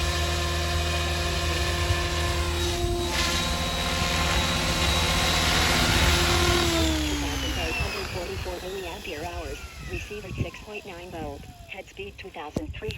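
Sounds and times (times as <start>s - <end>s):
rotor blades rushing: 0.0s - 12.6s
rc helicopter whine: 0.0s - 12.9s.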